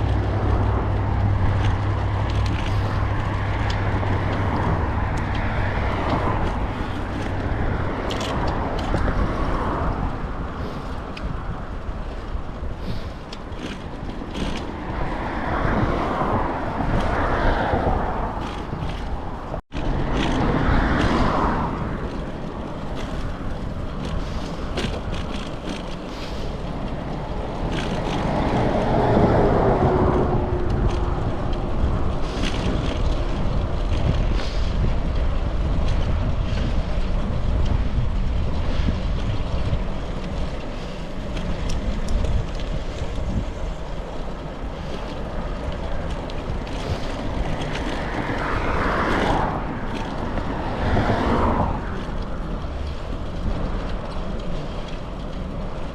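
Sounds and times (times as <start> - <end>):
bicycle road noise: 0.0 - 55.9
vehicle passing: 0.0 - 55.9
wind on microphone: 0.0 - 55.9.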